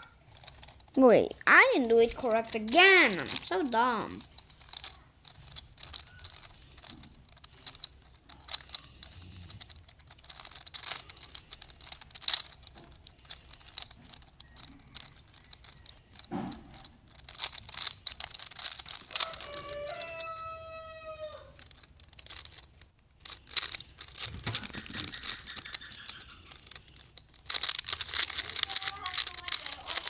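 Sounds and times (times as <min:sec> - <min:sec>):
plastic puzzle cube clicking: 0:00.2 - 0:30.0.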